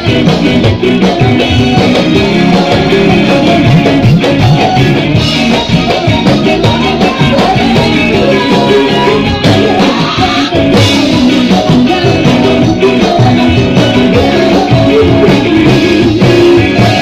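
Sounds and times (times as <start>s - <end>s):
live band playing dance music: 0.0s - 17.0s.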